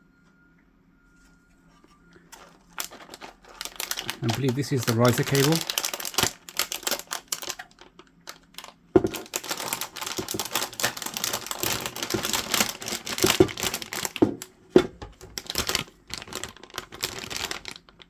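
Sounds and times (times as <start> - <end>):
plastic packaging crinkling: 2.2 - 18.0.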